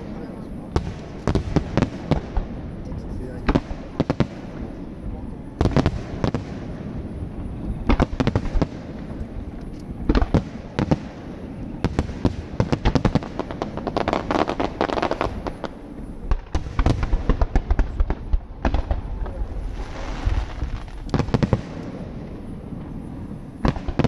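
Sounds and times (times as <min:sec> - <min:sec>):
fireworks bursting with bangs: 0:00.0 - 0:24.0
fireworks crackling: 0:00.0 - 0:24.0.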